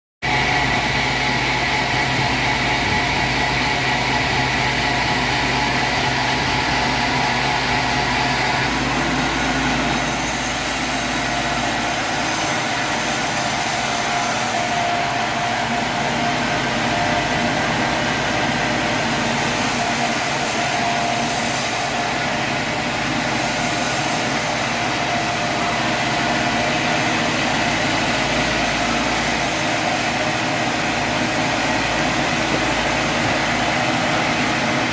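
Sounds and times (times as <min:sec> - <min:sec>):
sawmill machinery drone: 0:00.2 - 0:34.9.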